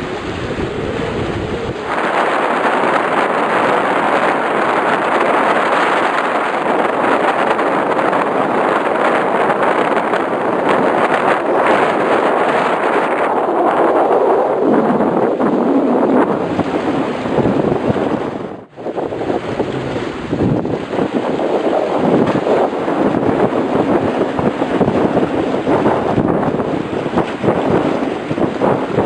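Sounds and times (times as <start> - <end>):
strong wind and sea rushing: 0.0 - 29.0.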